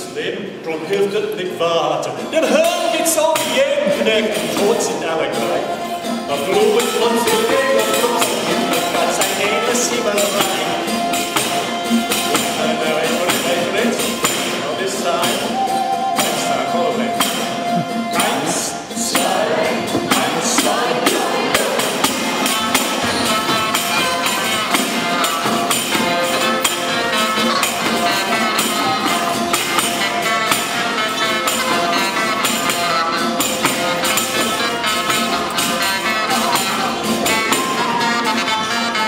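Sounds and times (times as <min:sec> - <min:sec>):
pipes and fiddle melody: 0:00.5 - 0:39.0
tambourine beat: 0:05.8 - 0:39.0.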